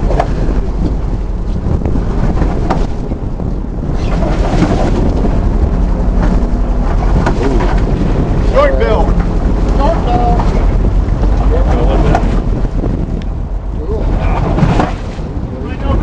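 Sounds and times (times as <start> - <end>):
boat engine rumble: 0.0 - 16.0
sea washing against hull: 0.0 - 16.0
wind buffeting microphone: 0.0 - 16.0.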